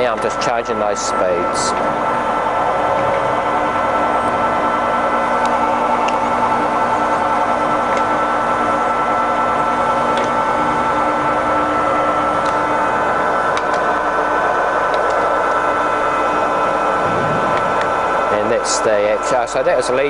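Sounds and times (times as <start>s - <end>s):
lathe gear whine: 0.0s - 20.0s.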